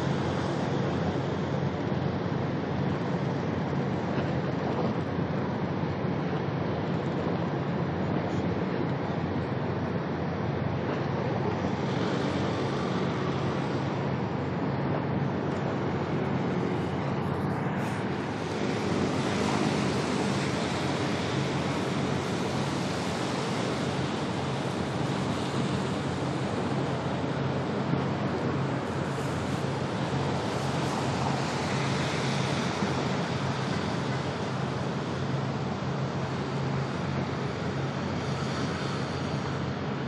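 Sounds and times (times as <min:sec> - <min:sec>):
low droning hum: 0:00.0 - 0:40.0
water noise: 0:00.0 - 0:40.0
wind: 0:00.0 - 0:40.0.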